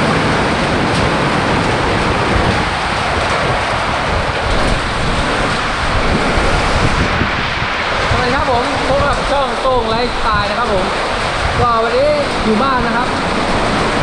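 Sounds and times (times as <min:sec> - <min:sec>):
heavy rain pouring: 0:00.0 - 0:14.0
wind buffeting microphone: 0:00.0 - 0:14.0.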